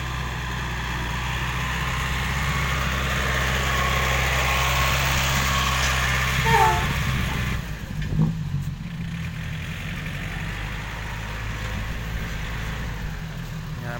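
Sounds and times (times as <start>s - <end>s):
diesel truck engine running: 0.0s - 13.9s.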